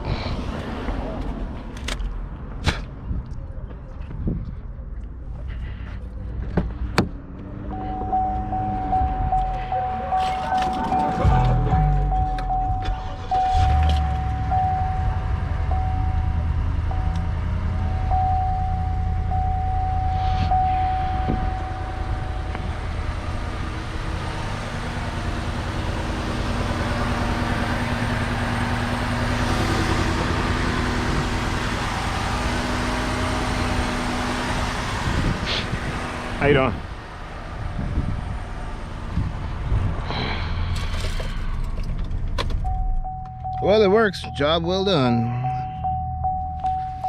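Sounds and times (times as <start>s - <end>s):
car engine rumbling: 0.0s - 47.0s.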